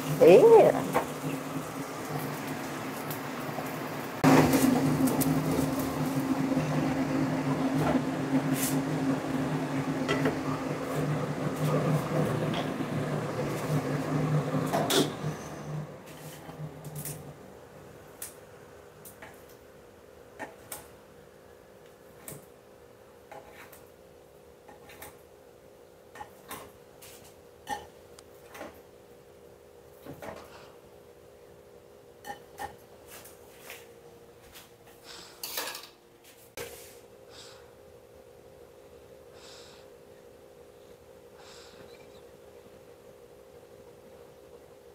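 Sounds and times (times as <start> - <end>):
range hood fan humming: 0.0 - 44.9.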